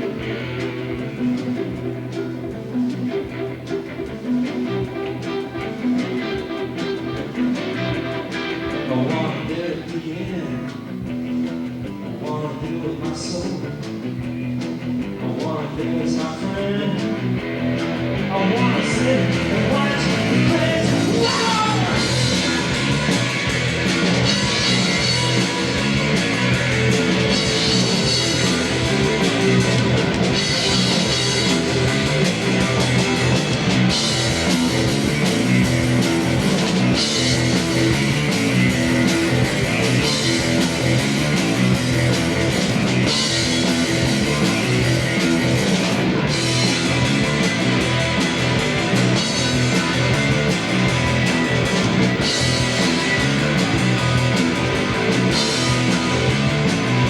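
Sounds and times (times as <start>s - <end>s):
drums: 0.0s - 57.0s
electric bass: 0.0s - 57.0s
electric guitars: 0.0s - 57.0s.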